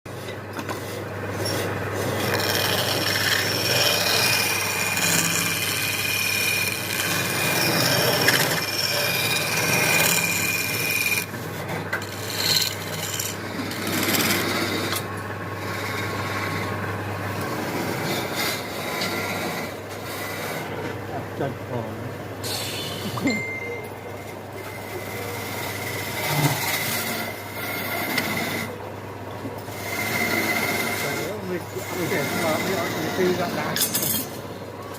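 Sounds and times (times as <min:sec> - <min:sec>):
tool rasping wood: 0:00.8 - 0:21.0, 0:24.6 - 0:28.8, 0:29.7 - 0:34.0.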